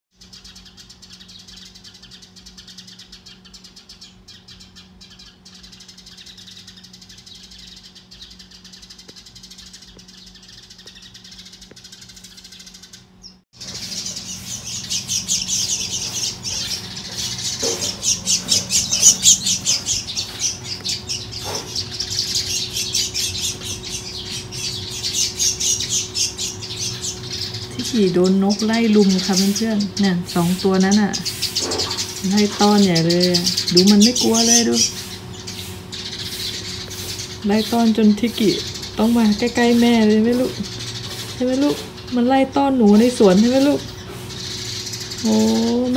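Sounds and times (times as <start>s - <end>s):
small birds scolding chirps: 0.1s - 45.9s.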